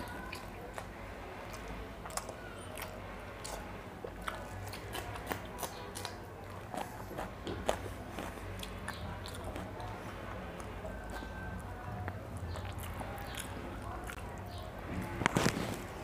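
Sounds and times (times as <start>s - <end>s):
man chewing and mouth sounds: 0.0s - 16.0s.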